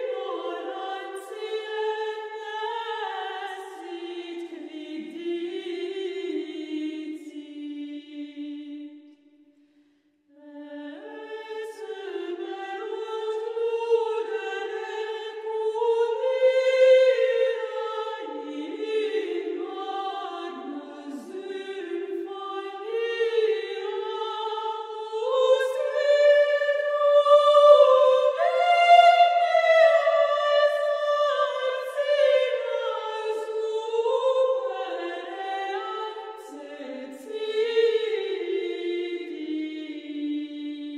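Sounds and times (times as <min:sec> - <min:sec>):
choir singing slow lines: 0:00.0 - 0:40.9.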